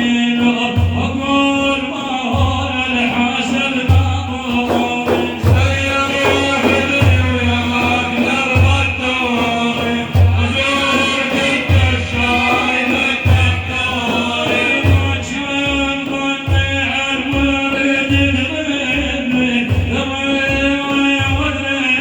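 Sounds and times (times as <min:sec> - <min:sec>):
low drum beats: 0:00.0 - 0:22.0
man singing devotional chant: 0:00.0 - 0:22.0.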